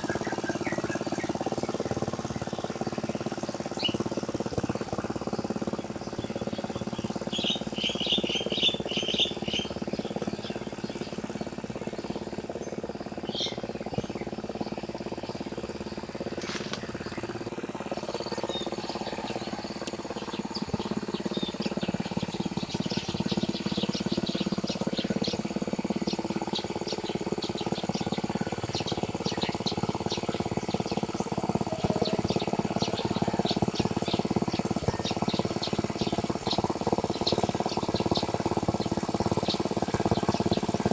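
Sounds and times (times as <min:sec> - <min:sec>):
birds chirping: 0:00.0 - 0:40.9
engine running steadily: 0:00.0 - 0:40.9.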